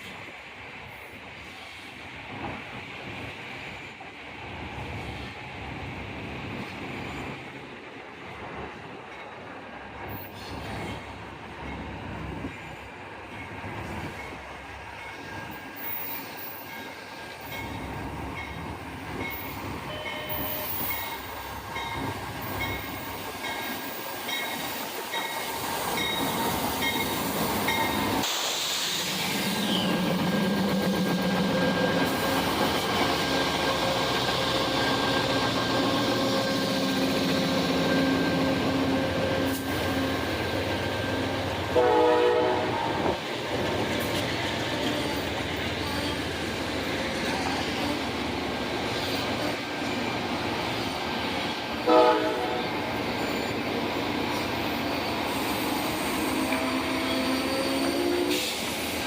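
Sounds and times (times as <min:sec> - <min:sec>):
train running past: 0:00.0 - 0:59.0.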